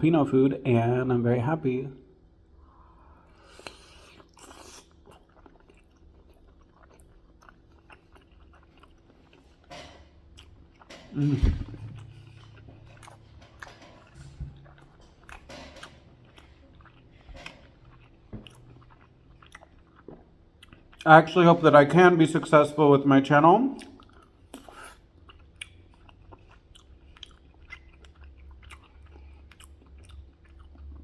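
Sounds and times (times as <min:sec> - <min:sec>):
chewing and biting food: 0:03.5 - 0:21.3, 0:23.8 - 0:31.0.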